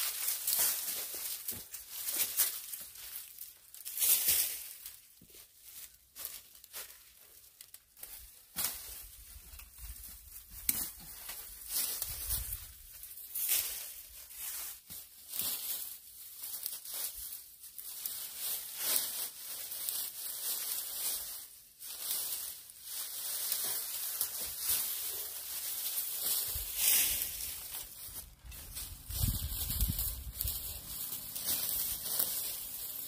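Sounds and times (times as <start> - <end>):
dry weeds crackling and rustling: 0.0 - 33.0.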